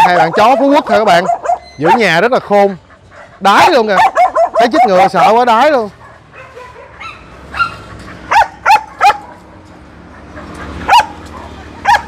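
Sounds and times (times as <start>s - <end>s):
dog barking: 0.0s - 2.2s, 3.0s - 5.3s, 6.0s - 9.5s, 10.2s - 12.0s.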